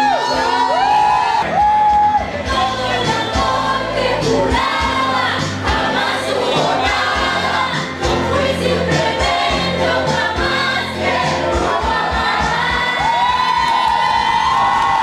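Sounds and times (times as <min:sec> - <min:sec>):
song with lead singer: 0:00.1 - 0:14.0.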